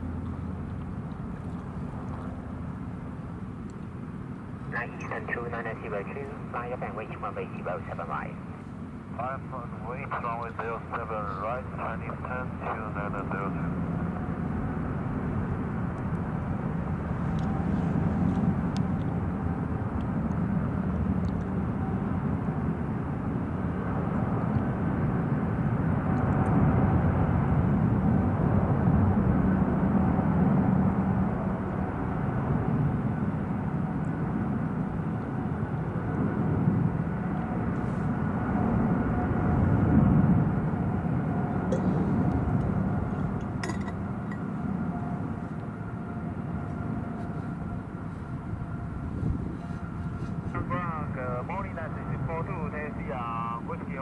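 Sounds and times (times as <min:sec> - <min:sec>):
distant jet engines: 0:00.0 - 0:54.0.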